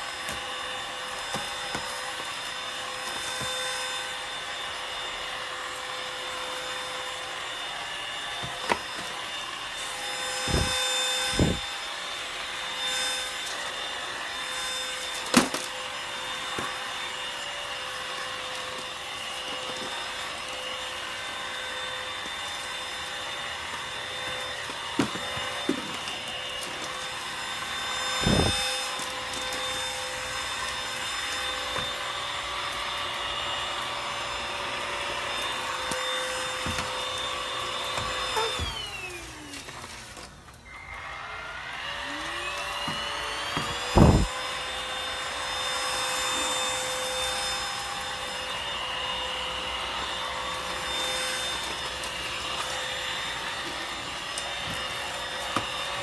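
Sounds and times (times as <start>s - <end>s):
stick vacuum cleaner running: 0.0s - 56.0s.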